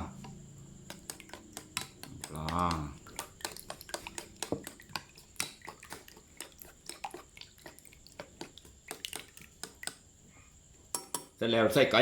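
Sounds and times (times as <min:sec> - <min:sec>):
utensil clinking against a bowl: 0:00.1 - 0:10.0, 0:10.9 - 0:11.4.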